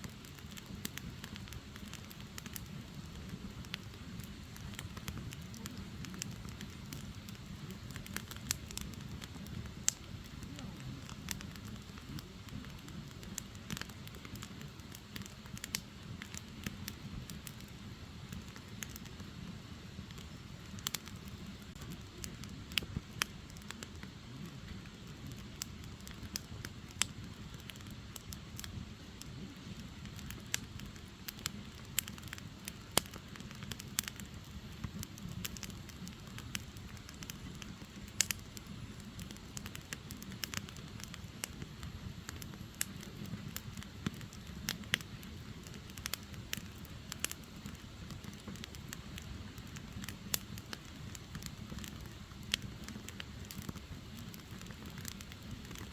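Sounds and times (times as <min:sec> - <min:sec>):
crackles and pops of burning logs: 0:00.0 - 0:55.9
rush of flame: 0:00.0 - 0:55.9.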